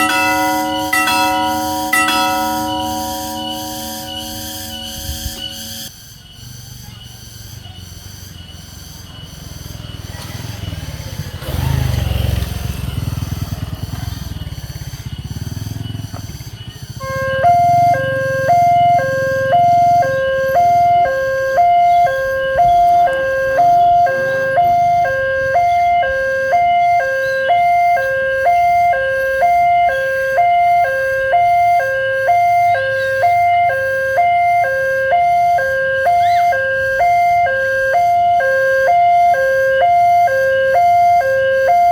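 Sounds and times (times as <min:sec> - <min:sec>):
level-crossing warning siren: 0:00.0 - 0:06.0, 0:08.4 - 0:41.9.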